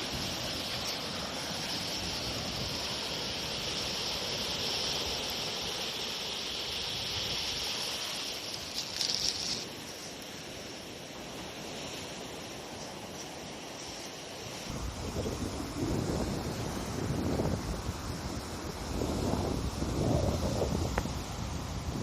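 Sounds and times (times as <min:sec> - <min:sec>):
surf washing: 0:00.0 - 0:22.0
wind: 0:00.0 - 0:22.0.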